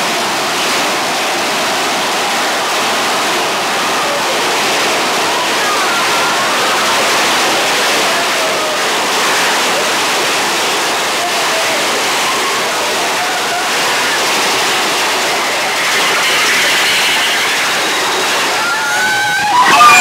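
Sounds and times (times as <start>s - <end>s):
faint riders' voices: 0.0s - 20.0s
roller coaster rushing on track: 0.0s - 20.0s.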